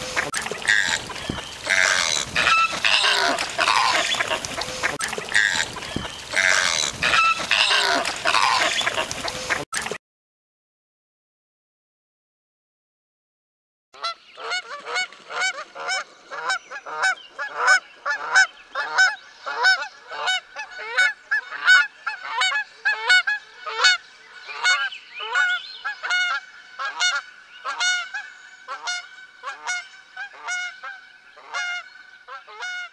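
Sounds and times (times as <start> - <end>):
geese honking: 0.0 - 9.6, 14.0 - 32.9.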